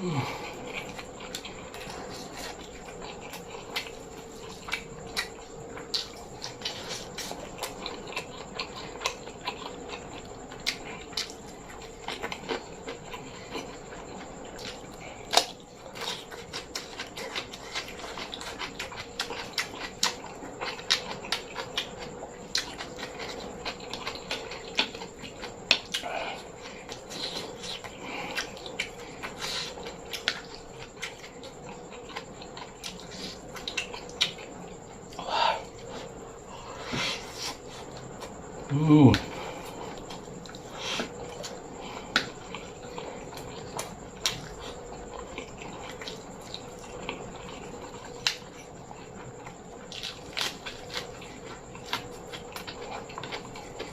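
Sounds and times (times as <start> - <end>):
person chewing and smacking: 0.0 - 53.9.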